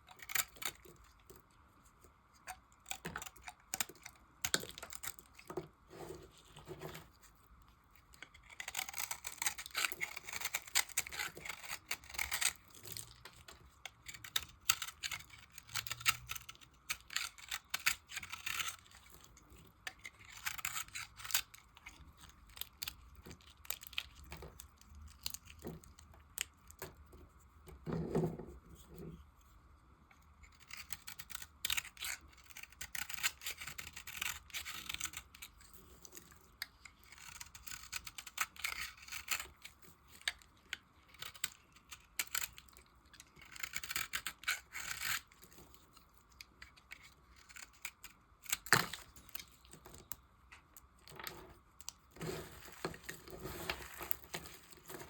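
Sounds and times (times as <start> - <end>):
blade scraping soap: 0.0 - 1.4, 2.5 - 7.4, 8.0 - 27.0, 30.4 - 50.2, 51.0 - 55.0.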